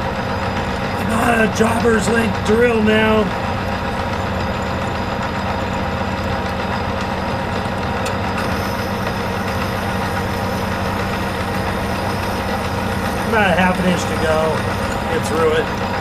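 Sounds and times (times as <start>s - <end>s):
metal lathe drilling metal: 0.0s - 16.0s.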